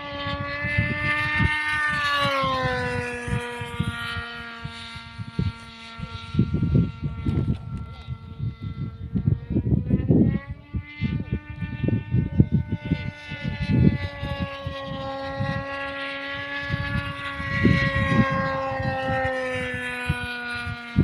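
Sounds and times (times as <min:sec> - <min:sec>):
model plane engine whining: 0:00.0 - 0:21.0
wind buffeting microphone: 0:00.0 - 0:21.0.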